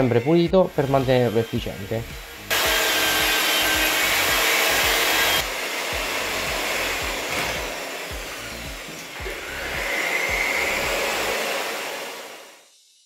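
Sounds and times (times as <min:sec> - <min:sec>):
electric paddle mixer running: 0:00.0 - 0:12.6.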